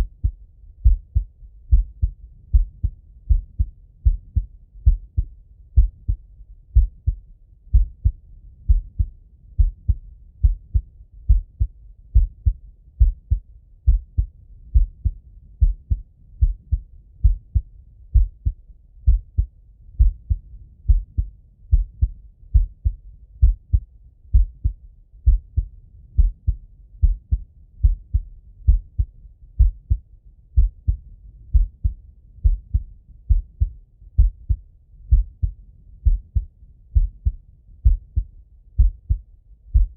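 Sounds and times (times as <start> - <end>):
heart beating: 0.0 - 6.2, 6.8 - 39.9.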